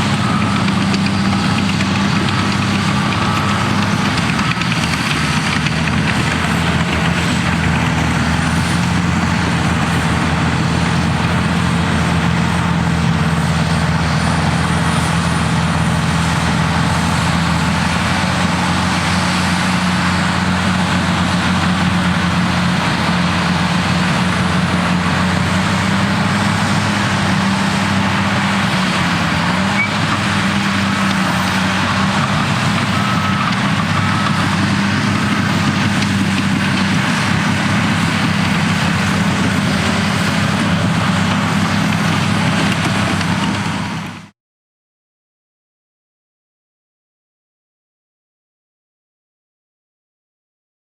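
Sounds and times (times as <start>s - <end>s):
bulldozer diesel engine: 0.0s - 44.3s.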